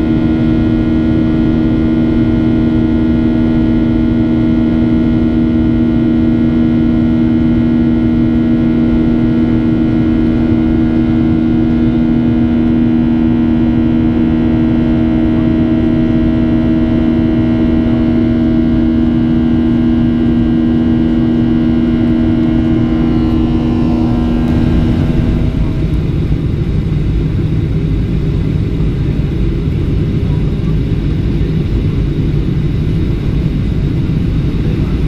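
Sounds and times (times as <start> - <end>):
jet engine roar in cabin: 0.0 - 35.0.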